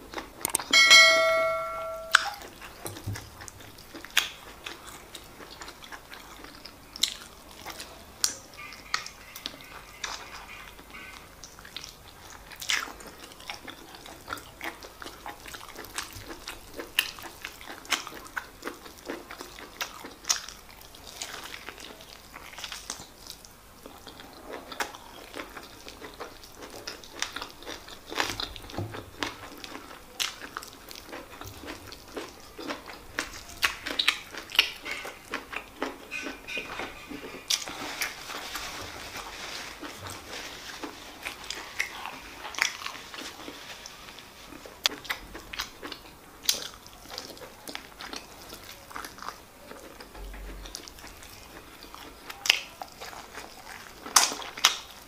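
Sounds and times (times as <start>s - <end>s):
person chewing with wet clicks: 0.0s - 0.8s, 2.1s - 38.7s, 39.8s - 55.0s.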